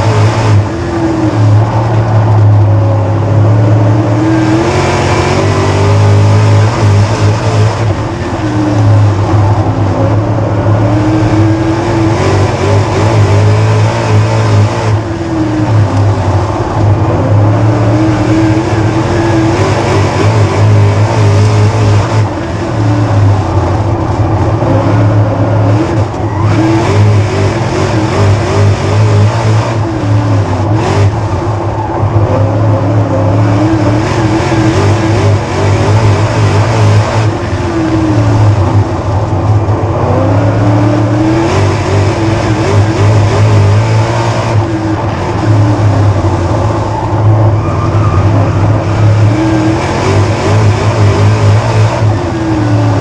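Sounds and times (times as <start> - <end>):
race car engine at full pace: 0.0 - 53.0.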